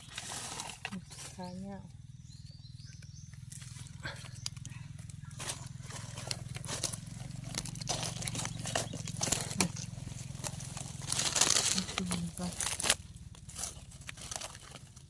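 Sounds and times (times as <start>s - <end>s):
scraping and crackling of soil: 0.0s - 1.9s, 2.9s - 15.0s
steady low drone: 0.0s - 15.0s.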